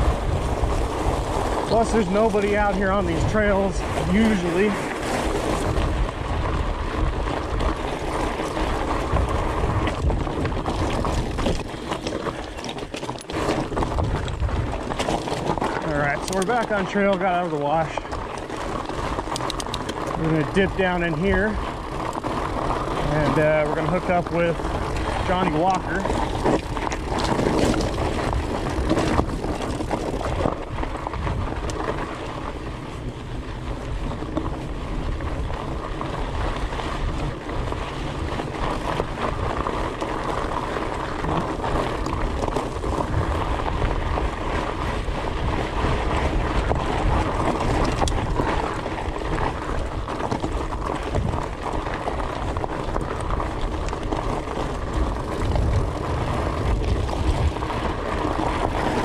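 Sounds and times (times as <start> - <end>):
bike knocking and rattling: 0.0 - 59.0
bike tyres rolling over gravel: 0.0 - 59.0
wind buffeting microphone: 0.0 - 59.0.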